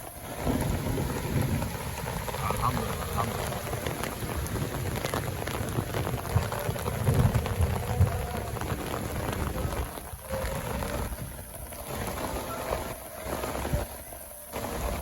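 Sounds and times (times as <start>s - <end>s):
low rumble: 0.0s - 12.9s
rain falling: 0.0s - 15.0s.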